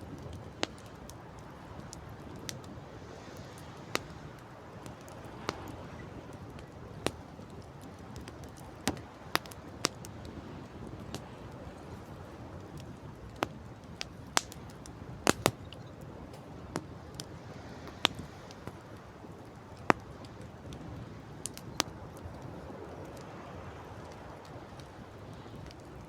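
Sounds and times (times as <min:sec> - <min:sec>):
campfire crackling: 0:00.0 - 0:26.0
sea: 0:00.0 - 0:26.0.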